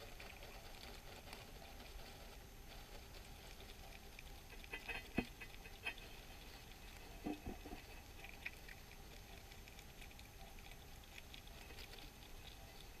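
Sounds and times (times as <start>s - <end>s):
hedgehog chewing crunches: 0.0s - 13.0s.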